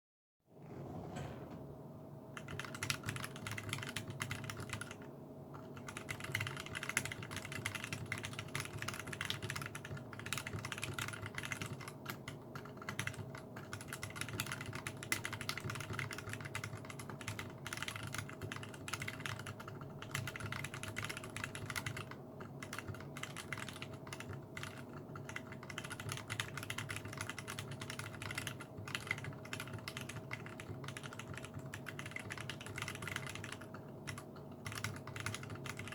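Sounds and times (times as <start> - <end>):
fast typing on mechanical keyboard: 2.4 - 35.9.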